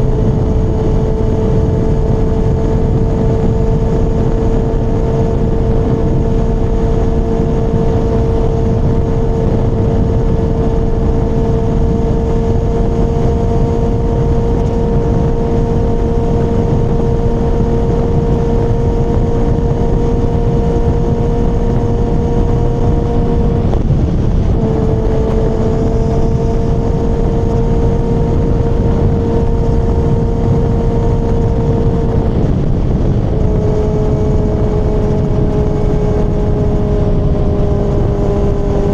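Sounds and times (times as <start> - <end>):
motorcycle engine cruising: 0.0 - 38.9
wind rush: 0.0 - 38.9.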